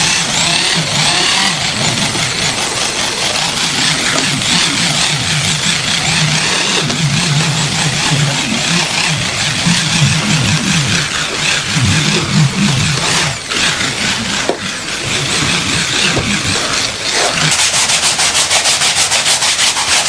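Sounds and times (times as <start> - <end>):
cleaning machine motor whining: 0.0 - 20.0.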